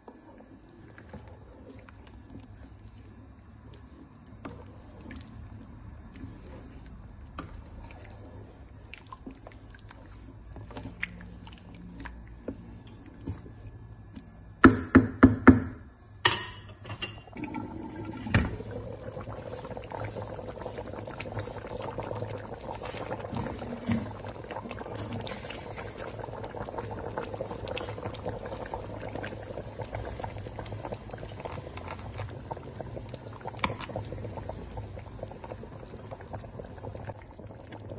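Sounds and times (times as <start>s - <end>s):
soup bubbling: 0.0s - 14.6s, 16.9s - 37.9s.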